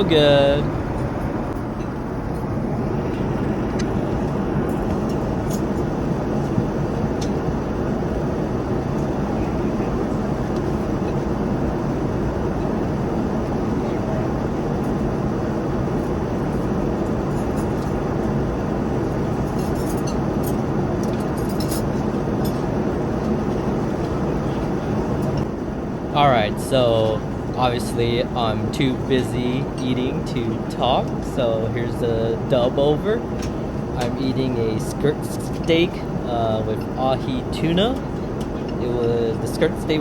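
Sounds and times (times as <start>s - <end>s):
airliner cabin noise: 0.0s - 40.0s.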